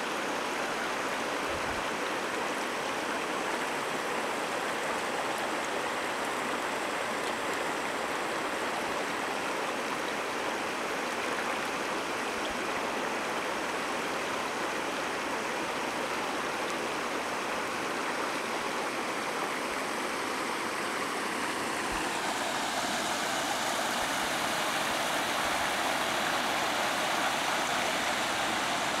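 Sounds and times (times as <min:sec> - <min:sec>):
creek water over gravel: 0:00.0 - 0:29.0.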